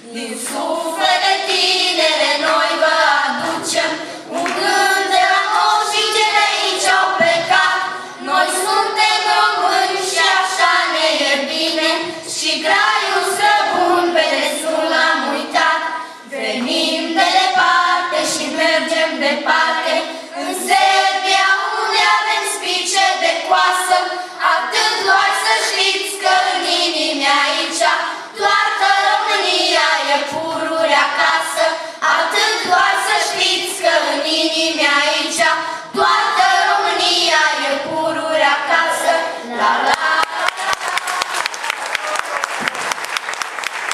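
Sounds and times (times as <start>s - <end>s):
girls singing together: 0.0s - 41.1s.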